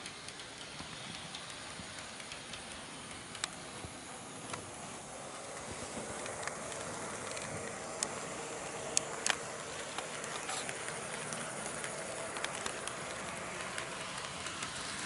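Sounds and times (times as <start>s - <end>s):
model train motor whir: 0.0s - 15.0s
wheels clicking over rail joints: 0.0s - 15.0s.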